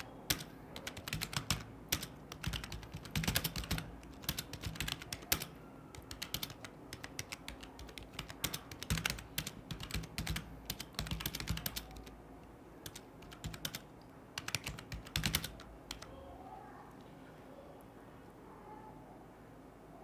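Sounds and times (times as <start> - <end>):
computer keyboard typing: 0.0 - 16.2.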